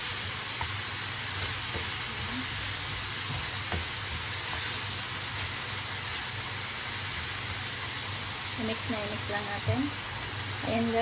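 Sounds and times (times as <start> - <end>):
banana slices sizzling in a pan: 0.0 - 11.0.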